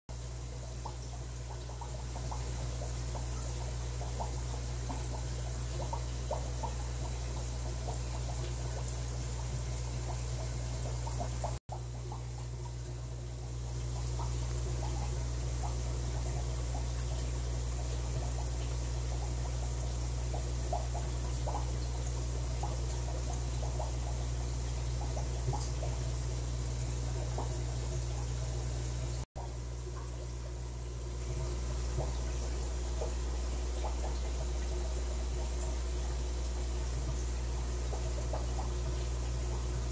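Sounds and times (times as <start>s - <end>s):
water trickling: 0.1s - 39.9s
bubbling pops: 0.6s - 39.9s.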